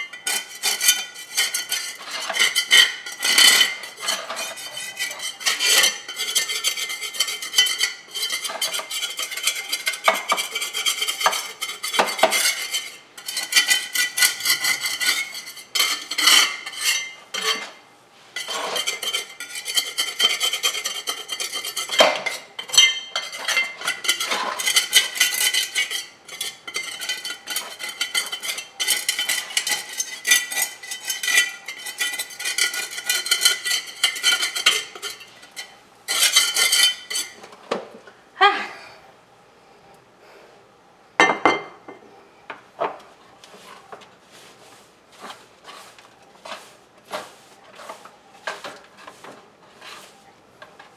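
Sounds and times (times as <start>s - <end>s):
hand tool scraping floor: 0.0s - 37.9s, 42.8s - 50.9s.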